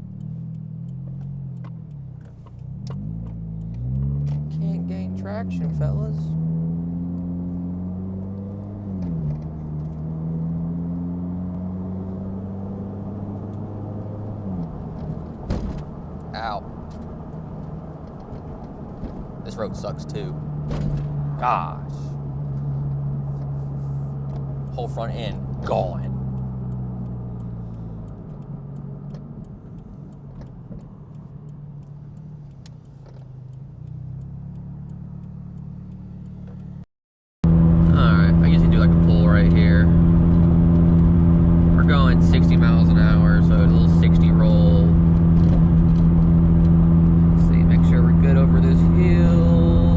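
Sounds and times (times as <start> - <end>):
car engine running inside cabin: 0.0 - 36.8, 37.4 - 49.9.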